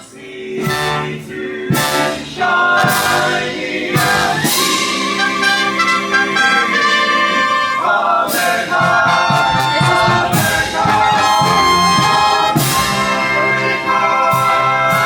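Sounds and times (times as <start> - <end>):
brass chords: 0.6 - 15.0.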